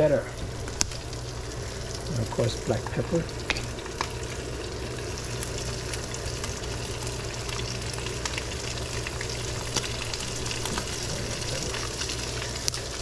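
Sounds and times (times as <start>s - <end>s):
food sizzling on a grill: 0.0s - 13.0s
low steady hum: 0.0s - 13.0s.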